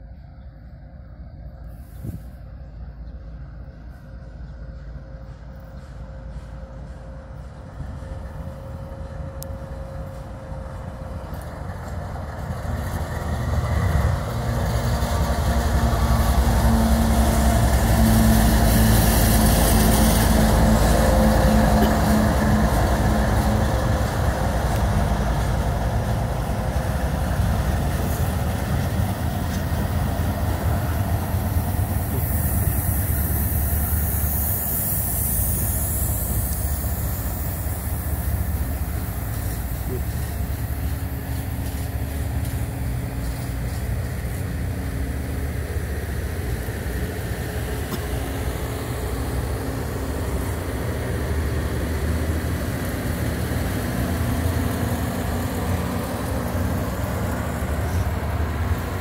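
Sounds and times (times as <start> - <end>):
diesel locomotive engine drone: 0.0 - 59.0
rail cars rumbling and clattering: 0.0 - 59.0.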